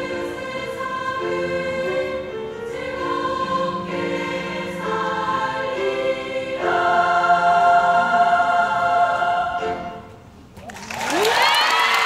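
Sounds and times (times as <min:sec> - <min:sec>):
girls choir singing: 0:00.0 - 0:10.1.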